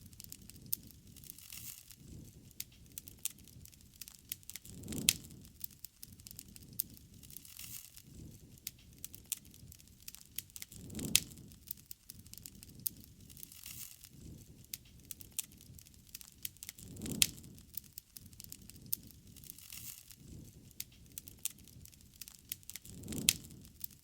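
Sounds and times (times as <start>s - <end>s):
low rumble of flame: 0.0s - 24.0s
wood fire crackling: 0.0s - 24.0s.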